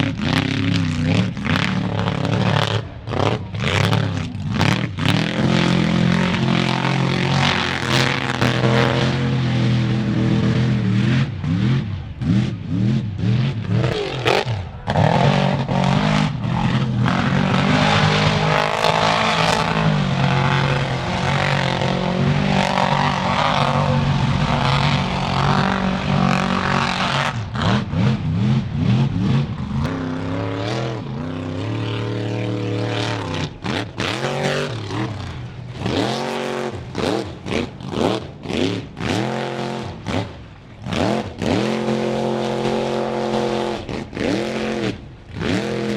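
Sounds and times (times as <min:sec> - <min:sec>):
truck engines revving: 0:00.0 - 0:45.9.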